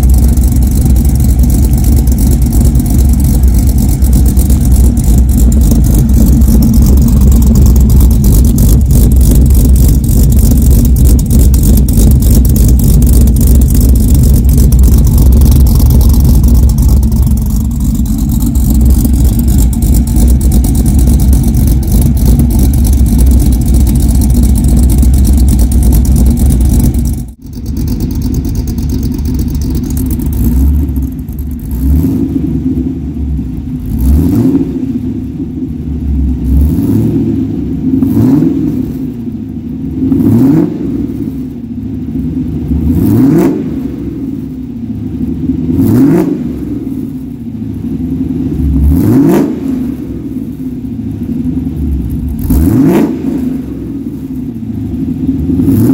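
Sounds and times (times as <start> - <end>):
engine revving: 0.0 - 35.1, 36.3 - 39.2, 40.0 - 41.4, 42.8 - 44.1, 45.6 - 46.9, 48.6 - 50.2, 52.3 - 54.2, 55.0 - 55.9
vee-eight exhaust idling: 0.0 - 40.2, 40.8 - 43.0, 43.6 - 49.0, 49.6 - 55.9.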